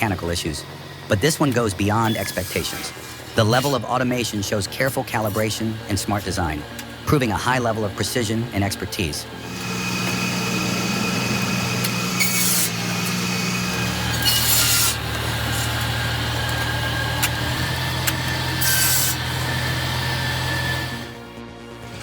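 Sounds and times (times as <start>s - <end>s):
powered saw motor hum: 0.0s - 22.0s
saw blade cutting wood: 1.0s - 21.2s.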